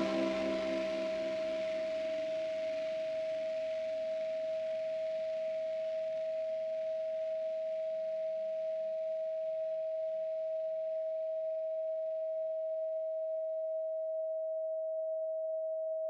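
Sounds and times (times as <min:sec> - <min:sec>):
steady sine tone: 0:00.0 - 0:16.0.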